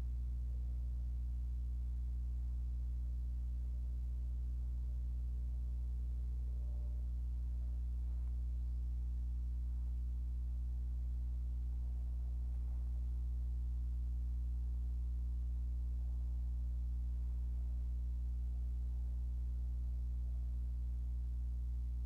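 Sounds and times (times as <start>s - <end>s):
mains hum: 0.0s - 22.0s.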